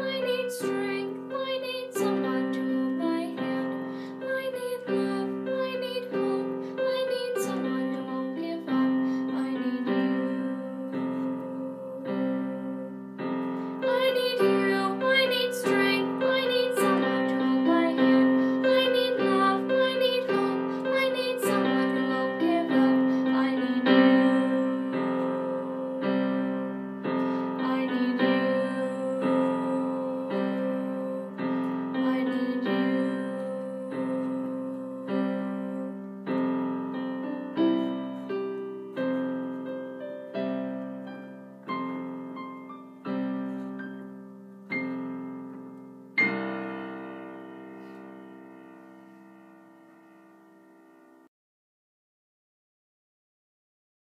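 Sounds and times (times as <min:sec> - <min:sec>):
slow piano chords: 0:00.0 - 0:51.3.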